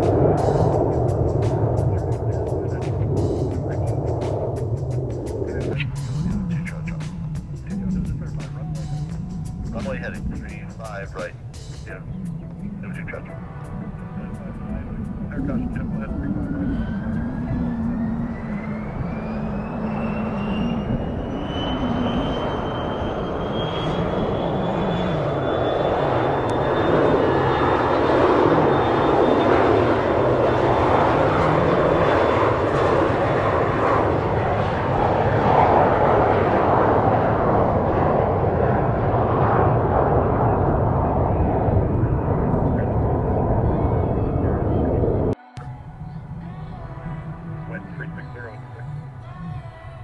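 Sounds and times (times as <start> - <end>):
loud jet roar: 0.0 - 45.8
jet engines spooling up: 0.0 - 49.9.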